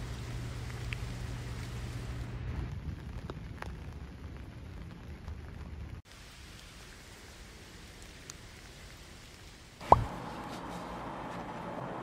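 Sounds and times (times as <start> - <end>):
rain falling on foliage: 0.0 - 9.9.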